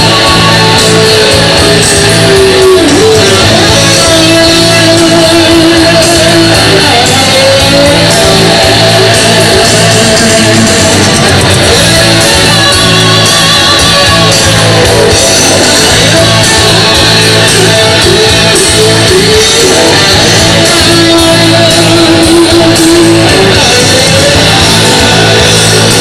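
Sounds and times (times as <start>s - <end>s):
distorted electric guitar: 0.0s - 26.0s
live rock band playing: 0.0s - 26.0s.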